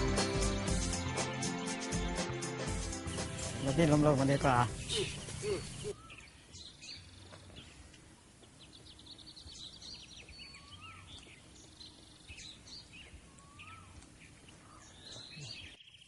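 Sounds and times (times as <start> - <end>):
bird chirps: 2.9 - 16.0.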